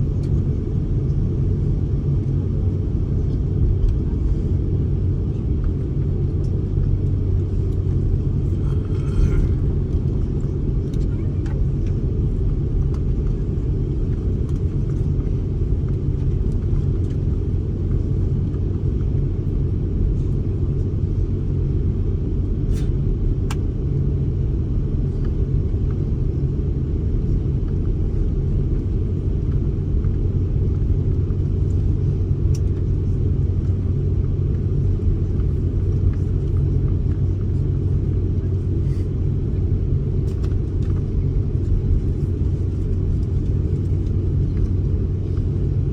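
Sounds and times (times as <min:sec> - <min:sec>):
even hum: 0:00.0 - 0:45.9
jet airliner cabin rumble: 0:00.0 - 0:45.9.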